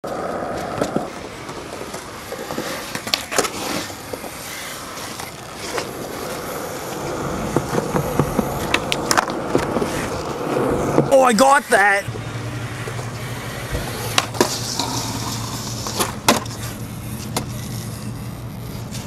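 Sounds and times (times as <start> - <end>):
skateboard clacking on ground: 0.0 - 12.0, 12.6 - 19.0
skateboard wheels rolling on concrete: 0.0 - 19.0.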